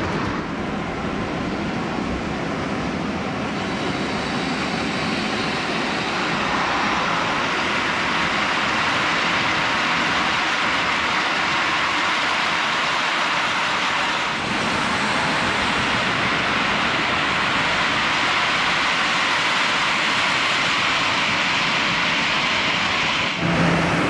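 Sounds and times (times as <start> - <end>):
model train wheels rumbling: 3.0 - 24.0.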